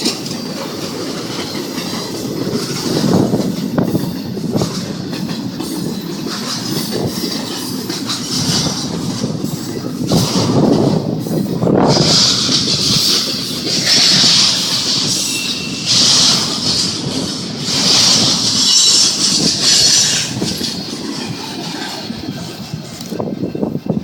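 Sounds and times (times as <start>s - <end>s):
freight train rumble: 0.0s - 24.0s
high-pitched wheel noise on rails: 0.0s - 24.0s.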